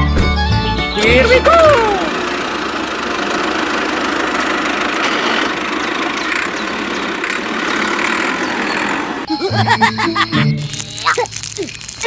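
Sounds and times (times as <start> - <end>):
toy tractor running: 1.0 - 9.8, 10.6 - 12.0.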